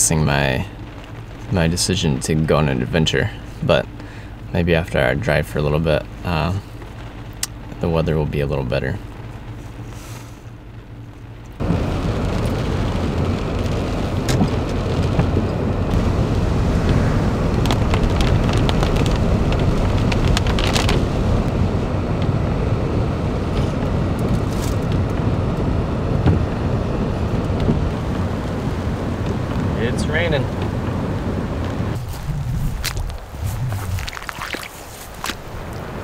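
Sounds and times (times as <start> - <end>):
heavy rain on car: 0.0 - 34.3
low hum: 0.0 - 36.0
wet road tyre noise: 0.0 - 36.0.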